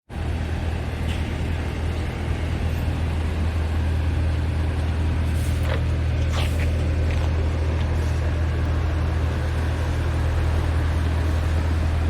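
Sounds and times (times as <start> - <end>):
diesel truck engine idling: 0.1 - 12.0.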